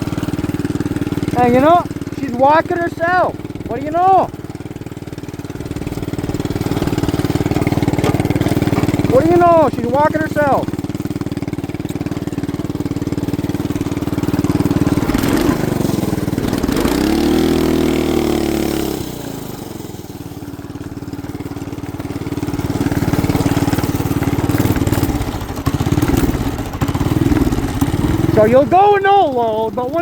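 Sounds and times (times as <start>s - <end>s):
small engine idling and revving: 0.0s - 30.0s.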